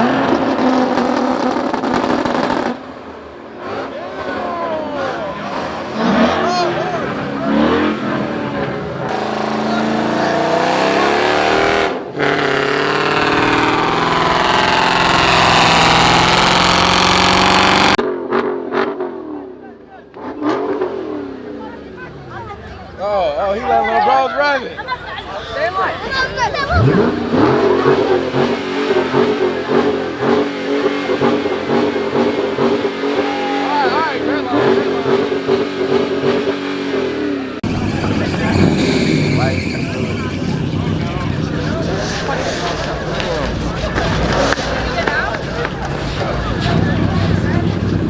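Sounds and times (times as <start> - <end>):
car engine revving: 0.0 - 19.2, 26.6 - 48.0.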